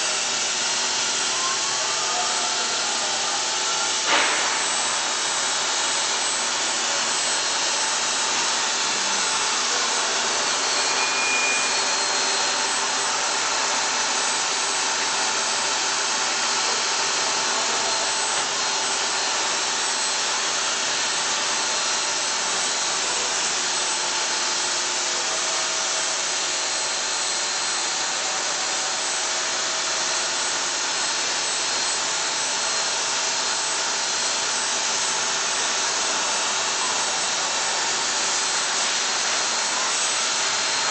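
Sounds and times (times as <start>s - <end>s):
machine cutting stone: 0.0s - 40.9s.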